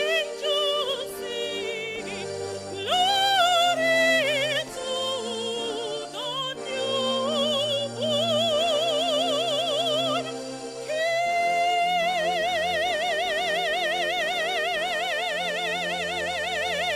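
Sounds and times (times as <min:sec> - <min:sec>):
woman singing operatically: 0:00.0 - 0:16.9.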